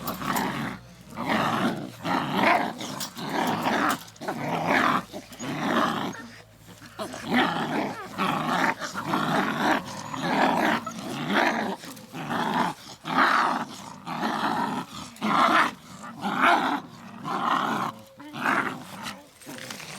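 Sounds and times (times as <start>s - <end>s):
puppies growling: 0.0s - 19.9s.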